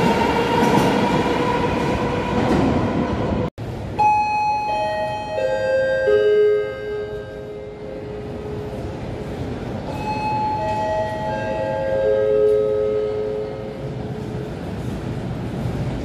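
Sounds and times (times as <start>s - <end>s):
low tunnel rumble: 0.0s - 16.0s
metro train whining in stepped tones: 0.0s - 16.0s.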